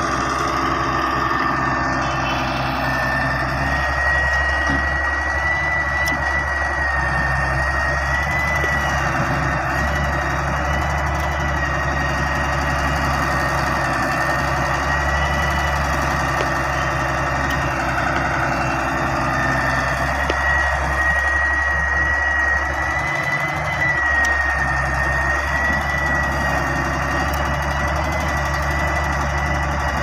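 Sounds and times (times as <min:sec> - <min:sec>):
diesel engine running: 0:00.0 - 0:30.0
high-pitched whine: 0:00.0 - 0:30.0.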